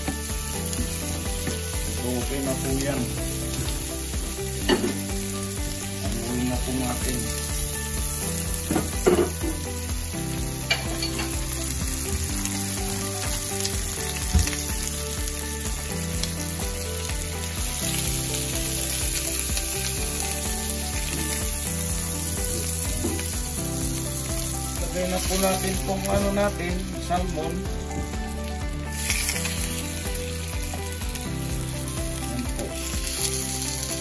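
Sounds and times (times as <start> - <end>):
food sizzling in a frying pan: 0.0 - 34.0.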